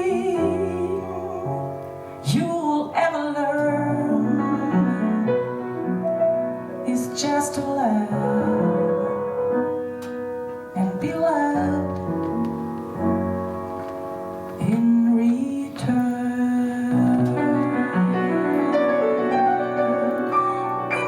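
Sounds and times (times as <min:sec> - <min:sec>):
piano: 0:00.0 - 0:21.0.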